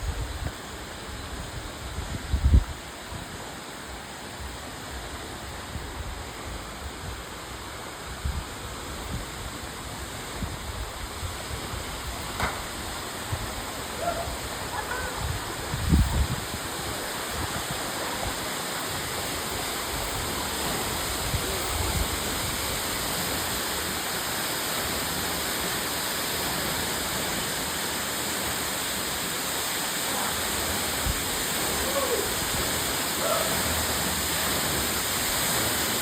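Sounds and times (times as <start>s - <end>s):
waterfall pouring and splashing: 0.0s - 36.0s.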